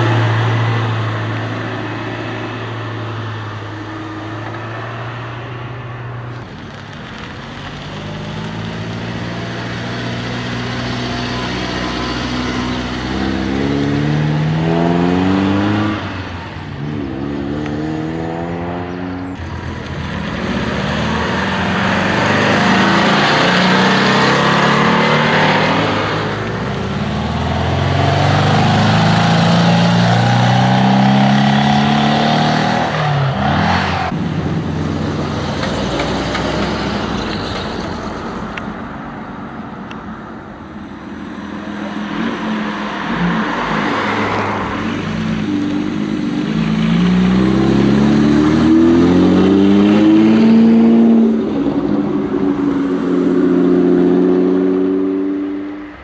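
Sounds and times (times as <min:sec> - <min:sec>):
cars accelerating past: 0:07.5 - 0:38.4, 0:41.7 - 0:56.0.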